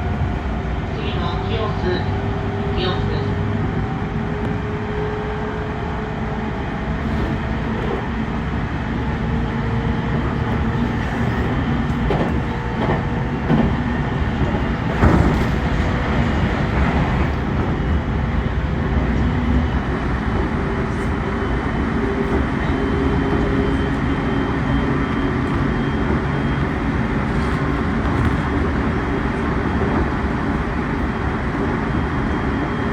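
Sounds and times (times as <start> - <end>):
train rumbling on rails: 0.0 - 32.9.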